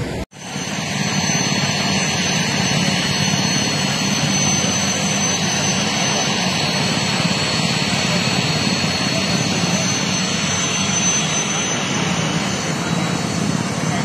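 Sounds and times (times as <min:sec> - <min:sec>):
helicopter turbine engine whine: 0:00.0 - 0:14.0.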